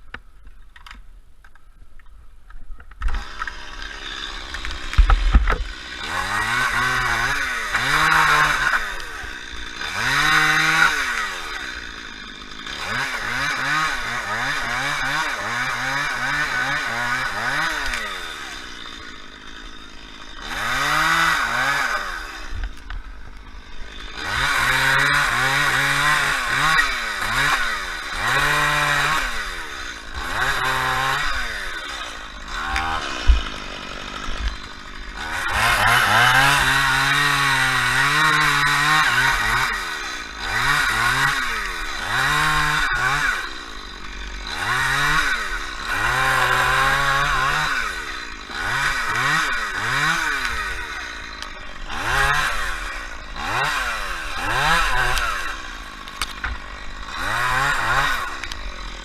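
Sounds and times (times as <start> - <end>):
chainsaw revving while cutting: 3.1 - 59.0.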